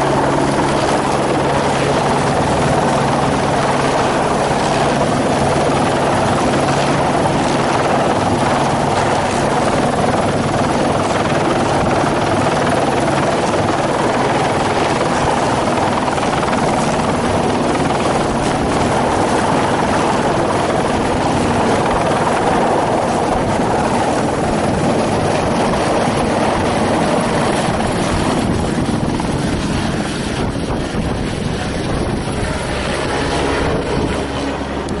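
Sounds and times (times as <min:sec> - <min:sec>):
helicopter rotor and engine: 0:00.0 - 0:35.0.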